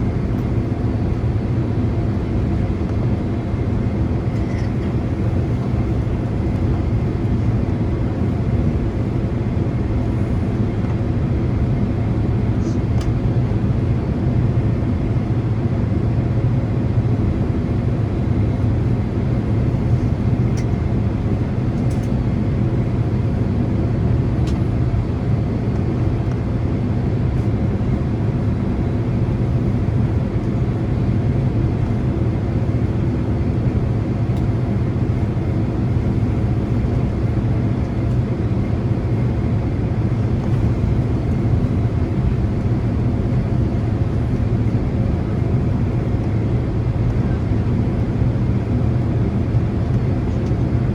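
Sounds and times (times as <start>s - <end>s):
aircraft cabin engine rumble: 0.0s - 50.9s.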